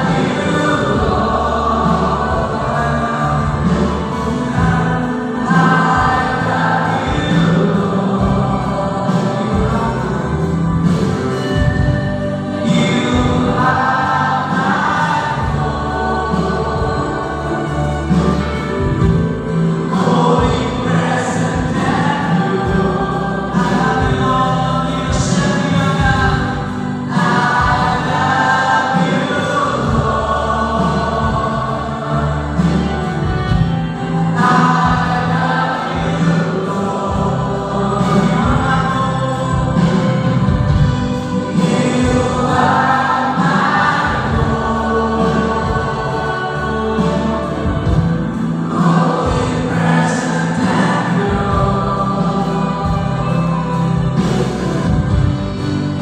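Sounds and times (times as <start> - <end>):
choir singing: 0.0 - 56.0
instrumental accompaniment with bass: 0.0 - 56.0.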